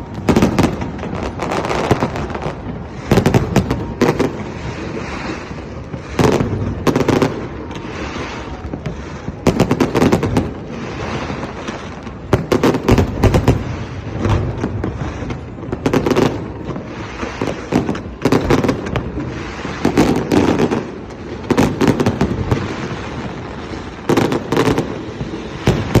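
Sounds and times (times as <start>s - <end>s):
fireworks bangs and booms: 0.0s - 26.0s
fireworks crackling: 0.0s - 26.0s.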